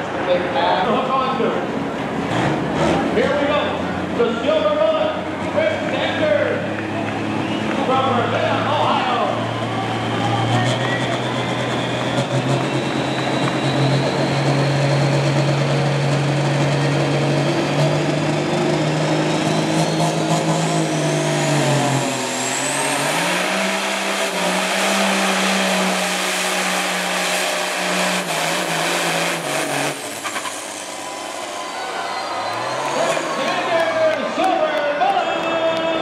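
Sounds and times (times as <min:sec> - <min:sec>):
diesel truck engine under load: 0:00.0 - 0:36.0.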